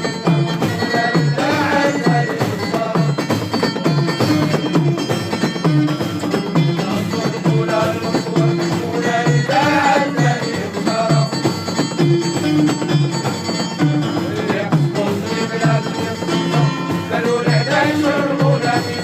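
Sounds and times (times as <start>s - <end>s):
live music with steady beat: 0.0s - 19.0s.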